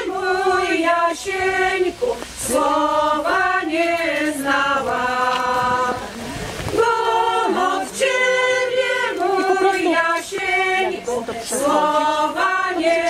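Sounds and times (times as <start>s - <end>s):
mixed choir singing a cappella: 0.0s - 13.0s.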